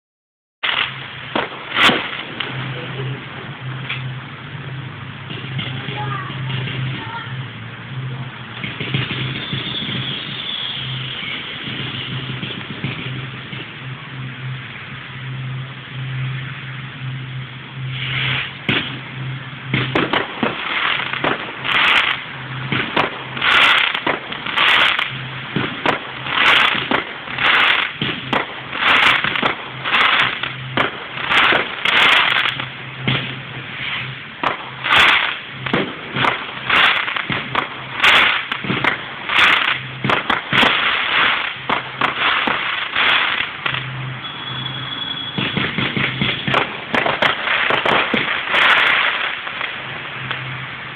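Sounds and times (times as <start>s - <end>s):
fireworks bangs and crackles: 0.6s - 50.9s.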